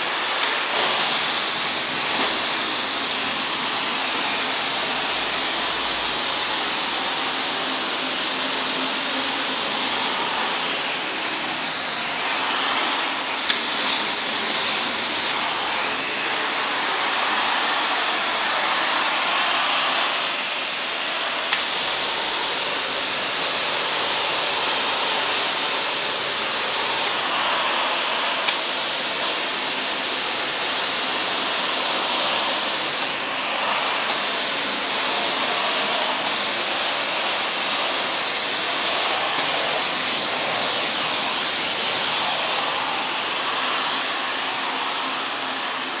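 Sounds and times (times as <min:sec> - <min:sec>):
cleaning wand spraying water: 0:00.0 - 0:46.0.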